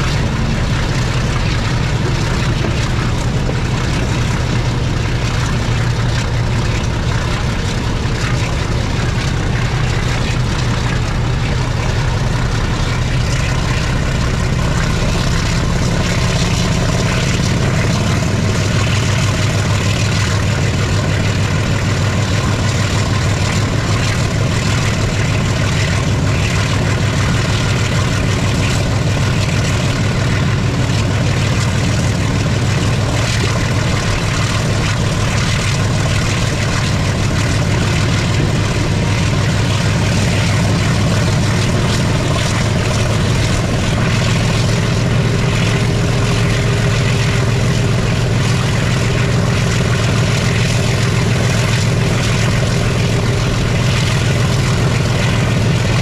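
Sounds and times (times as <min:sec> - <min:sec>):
diesel locomotive engine chugging: 0:00.0 - 0:56.0.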